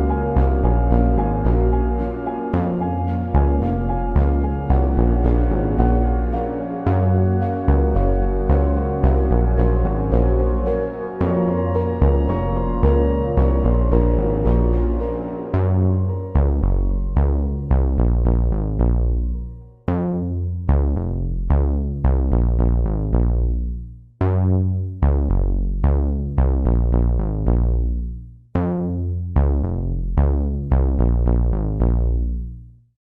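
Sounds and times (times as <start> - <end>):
electronic music: 0.0 - 32.5.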